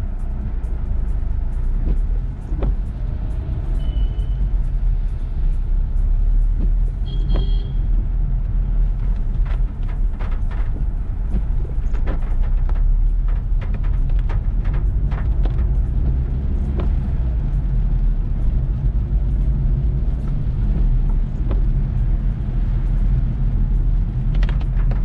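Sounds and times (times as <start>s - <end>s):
car rumbling: 0.0s - 25.0s
raindrops ticking: 0.0s - 25.0s.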